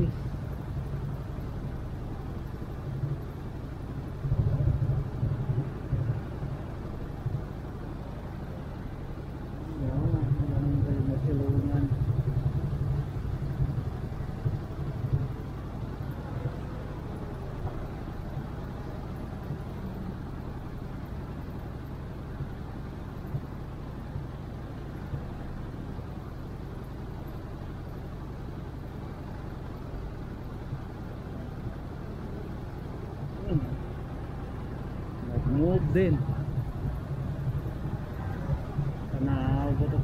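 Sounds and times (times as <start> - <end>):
traffic engines rumbling: 0.0 - 40.0.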